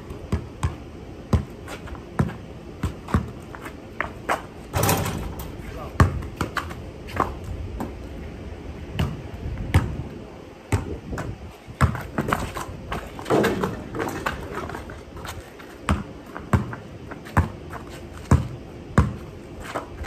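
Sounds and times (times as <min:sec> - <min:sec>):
basketball bouncing on concrete: 0:00.1 - 0:08.0, 0:08.9 - 0:10.1, 0:10.7 - 0:20.0.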